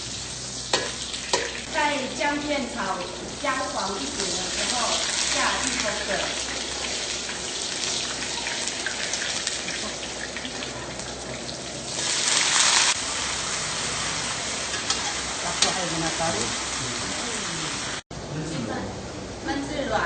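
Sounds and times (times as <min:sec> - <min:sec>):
ginger frying in hot oil: 0:00.0 - 0:18.0
water hissing in hot pan: 0:00.0 - 0:18.0.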